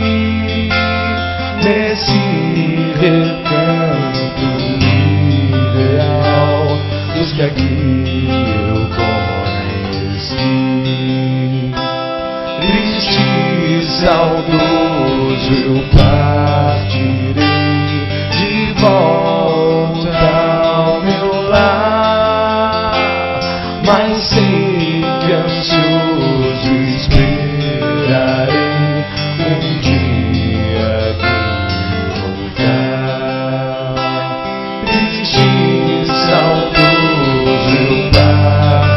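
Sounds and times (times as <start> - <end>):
song with acoustic guitar and vocals: 0.0 - 38.9.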